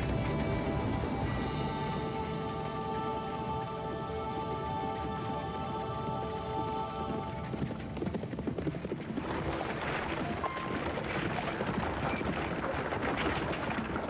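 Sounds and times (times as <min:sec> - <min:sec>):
galloping hooves: 0:00.0 - 0:14.0
rumbling wooden wheels: 0:00.0 - 0:14.0.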